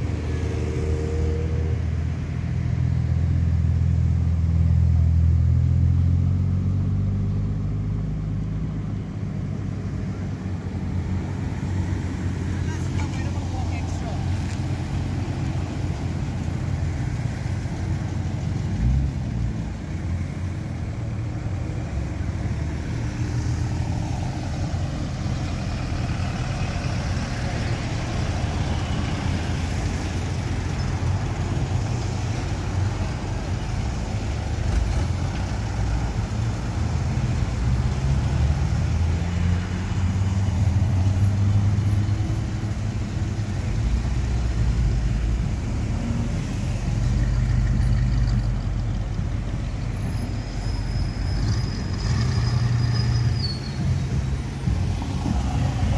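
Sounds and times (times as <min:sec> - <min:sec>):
car engine rolling by: 0:00.0 - 0:55.9
cars and trucks driving past: 0:00.0 - 0:55.9.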